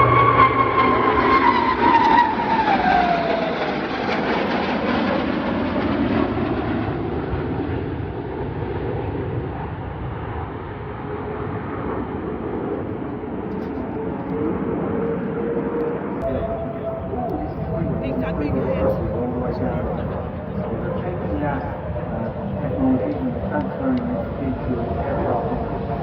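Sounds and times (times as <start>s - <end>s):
jet aircraft flying past: 0.0s - 26.0s.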